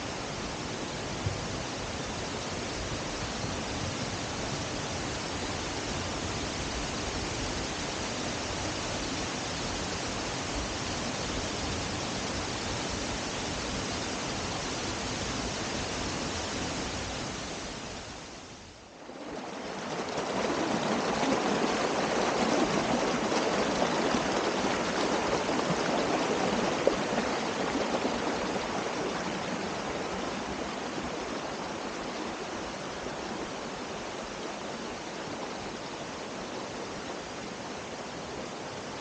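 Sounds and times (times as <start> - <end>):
waterfall rushing: 4.0 - 39.0.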